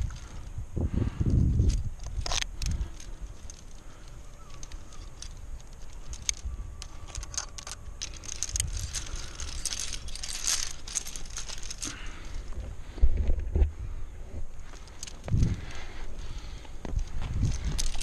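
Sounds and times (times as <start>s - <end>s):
metal climbing gear clinking: 0.0s - 0.5s, 1.3s - 12.7s, 14.5s - 18.0s.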